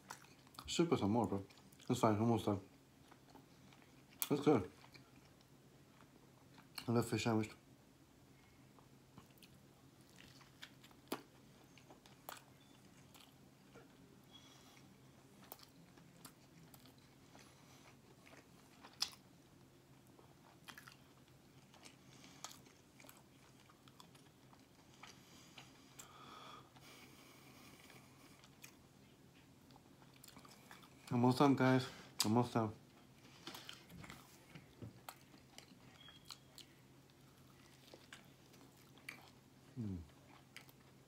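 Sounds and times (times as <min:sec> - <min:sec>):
faint chewing and biting: 0:00.0 - 0:07.0, 0:08.4 - 0:31.2, 0:32.1 - 0:41.0.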